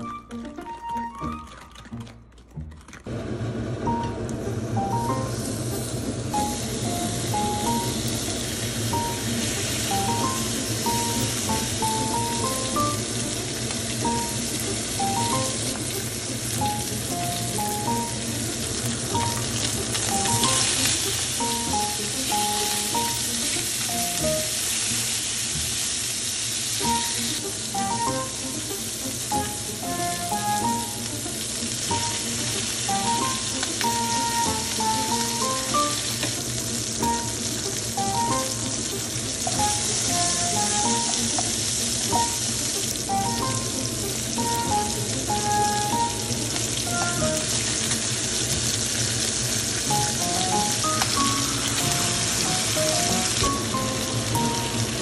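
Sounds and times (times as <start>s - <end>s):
light background music: 0.0s - 3.1s, 3.8s - 55.0s
meat sizzling in frying pan: 4.4s - 55.0s.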